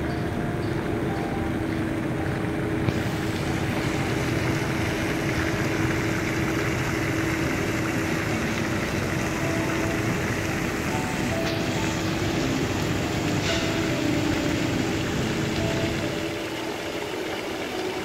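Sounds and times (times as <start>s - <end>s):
faint steady hum: 0.0s - 18.0s
fountain water spraying: 0.0s - 18.0s.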